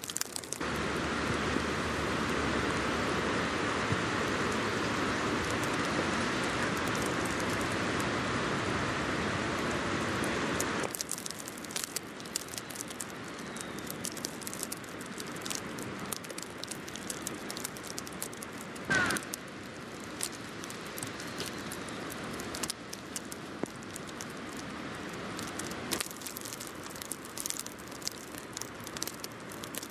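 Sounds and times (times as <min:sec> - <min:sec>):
small ticks and crackles: 0:00.0 - 0:02.4, 0:03.9 - 0:08.1, 0:09.6 - 0:29.9
traffic: 0:00.0 - 0:29.9
wind-blown snow rushing: 0:00.0 - 0:29.9.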